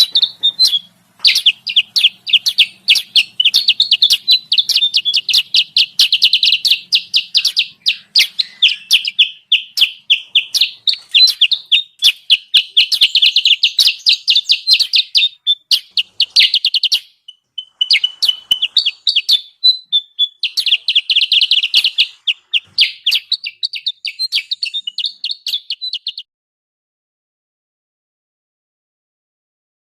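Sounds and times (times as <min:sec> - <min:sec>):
high chattering bird chirps: 0:00.0 - 0:26.3.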